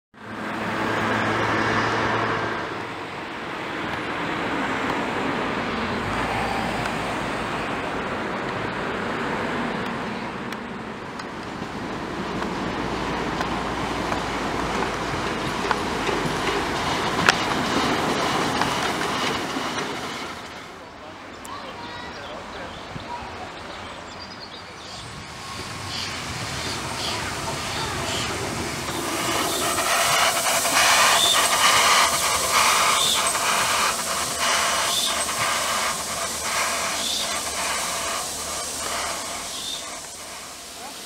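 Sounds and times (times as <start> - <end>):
steam locomotive passing: 0.2 - 41.0.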